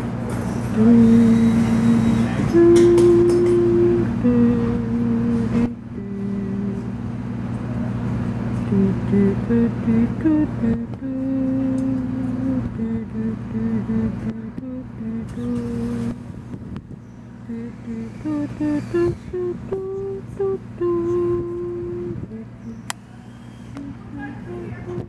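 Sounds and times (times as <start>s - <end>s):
steady low drone: 0.0s - 25.0s
person humming: 0.8s - 7.0s, 8.7s - 16.3s, 17.4s - 22.8s, 23.8s - 25.0s.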